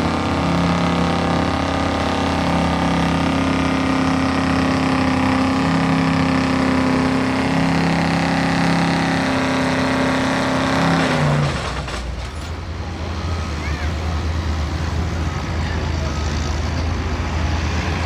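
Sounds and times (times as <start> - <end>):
truck engines running hard: 0.0 - 18.0.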